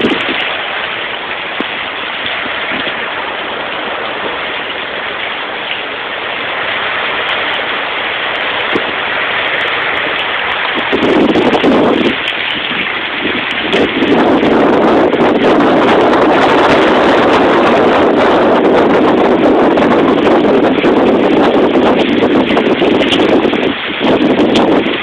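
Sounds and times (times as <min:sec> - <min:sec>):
heavy rain on concrete: 0:00.0 - 0:25.0
low rumble on microphone: 0:00.0 - 0:25.0.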